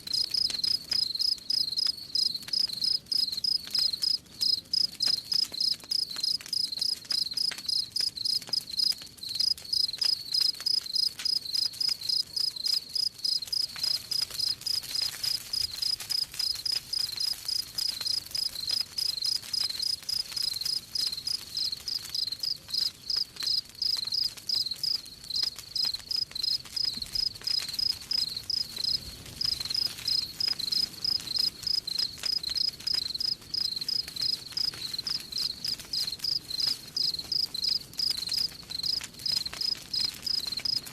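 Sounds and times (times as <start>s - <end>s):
campfire crackling: 0.0s - 40.9s
cricket chirping: 0.1s - 14.8s, 16.7s - 40.8s.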